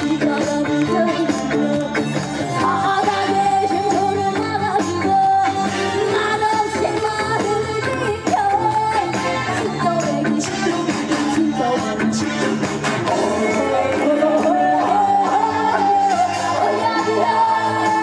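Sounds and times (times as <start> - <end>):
amplified backing music: 0.0 - 18.0
woman singing into microphone: 0.0 - 18.0.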